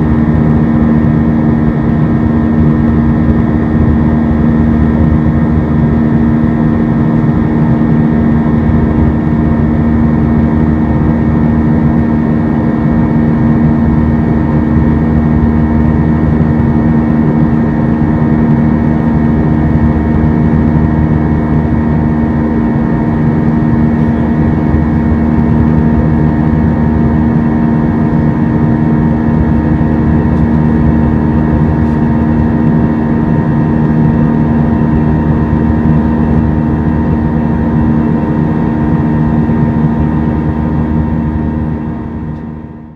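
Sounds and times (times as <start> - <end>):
high whine: 0.0 - 42.9
jet engine drone in cabin: 0.0 - 42.9.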